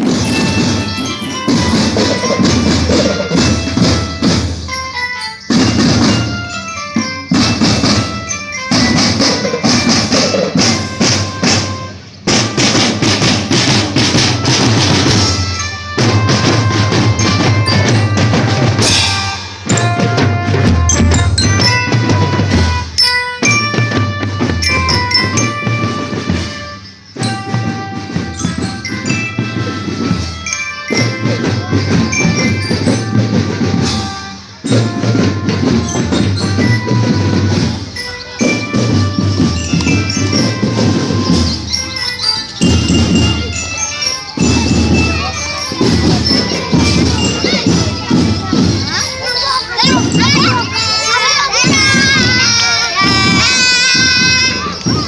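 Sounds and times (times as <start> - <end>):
bass and snare drums beating: 0.0 - 4.8, 5.5 - 55.0
bell-lyre melody: 0.0 - 55.0.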